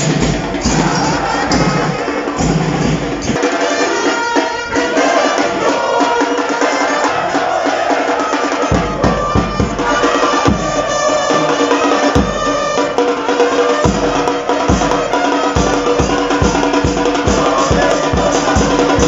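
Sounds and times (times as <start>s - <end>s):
supporters' band of drums and brass: 0.0s - 19.0s.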